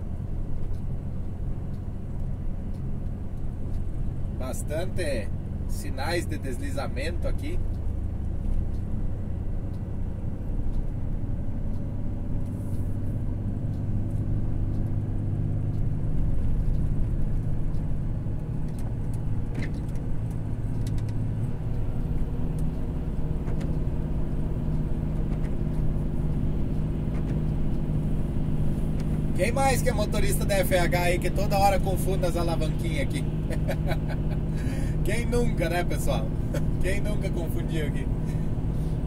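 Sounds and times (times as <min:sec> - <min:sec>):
truck diesel engine drone in cab: 0:00.0 - 0:39.0.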